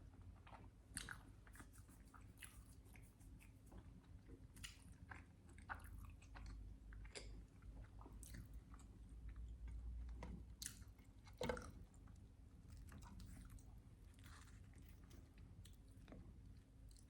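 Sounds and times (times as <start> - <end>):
wet chewing: 0.2 - 17.0.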